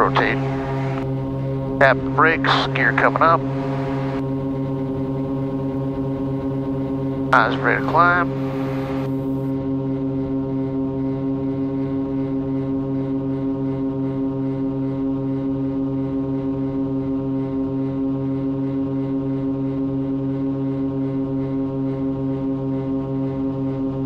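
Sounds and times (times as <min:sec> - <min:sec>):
propeller plane engines droning: 0:00.0 - 0:24.0.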